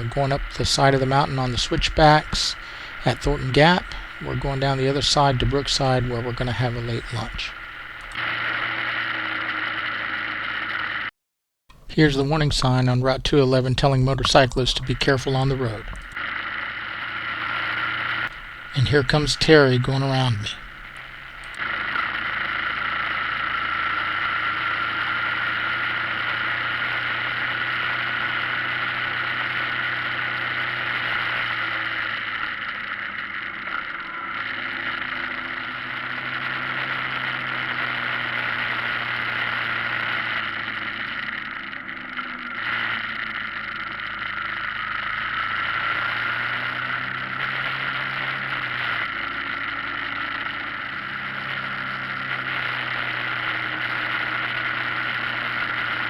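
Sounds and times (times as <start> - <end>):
motorcycle engine running: 0.0 - 8.2, 14.2 - 21.6, 22.4 - 56.0.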